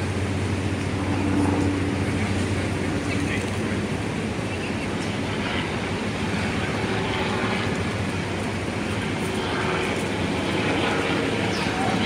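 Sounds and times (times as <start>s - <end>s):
boat engine drone: 0.0s - 12.0s
wind: 0.0s - 12.0s.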